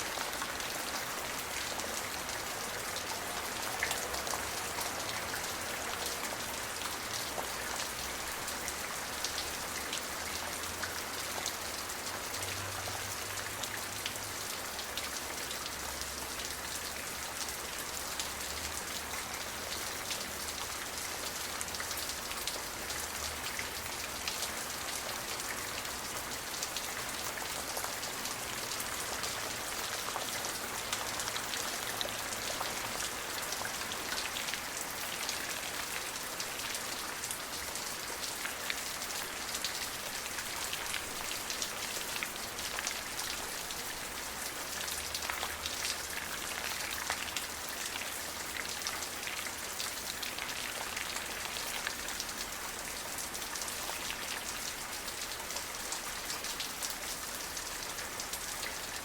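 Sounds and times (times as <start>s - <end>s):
raindrops pattering on a surface: 0.0s - 59.0s
steady rain: 0.0s - 59.0s.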